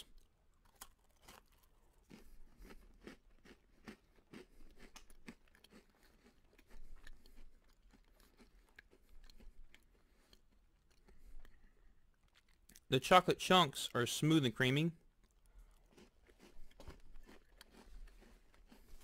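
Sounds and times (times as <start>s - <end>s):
person chewing crunchy cookie: 0.0s - 19.0s.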